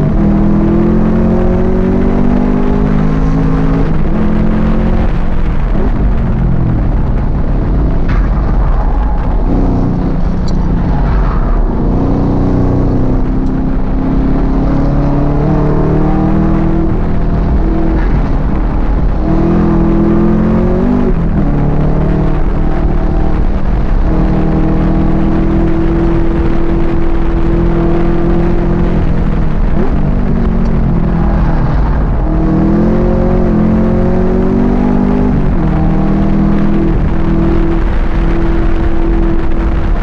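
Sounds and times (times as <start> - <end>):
car engine revving: 0.0 - 40.0
road and tyre rumble: 0.0 - 40.0.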